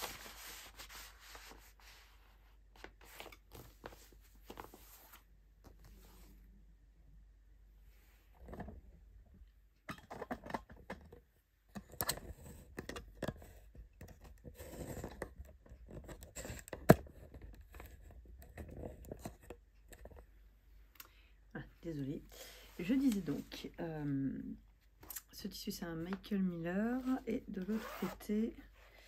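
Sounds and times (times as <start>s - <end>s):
rustling and scraping handling noise: 0.0s - 6.5s, 9.8s - 20.4s, 22.2s - 25.3s, 26.0s - 29.0s.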